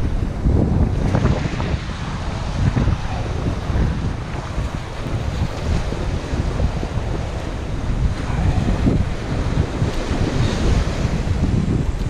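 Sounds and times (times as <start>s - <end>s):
surf on shingle shore: 0.0s - 12.0s
wind buffeting microphone: 0.0s - 12.0s.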